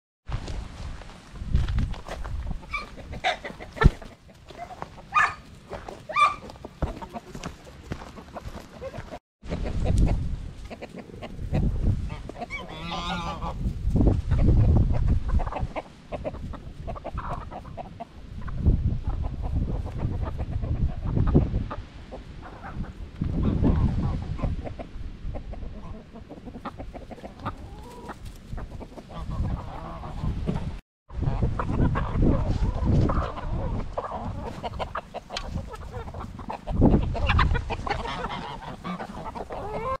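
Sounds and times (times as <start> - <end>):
chickens clucking: 2.0 - 40.0.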